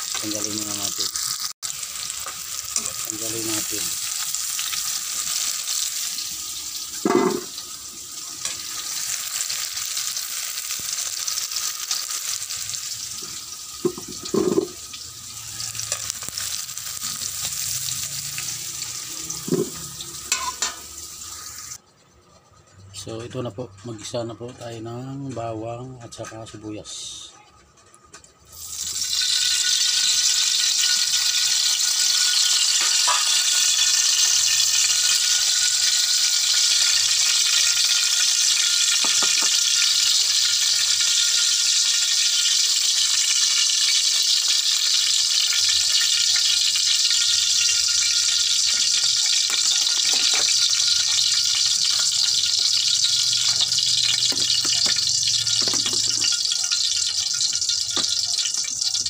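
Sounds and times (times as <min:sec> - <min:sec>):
oil sizzling in a wok: 0:00.0 - 0:22.1, 0:28.4 - 0:59.0.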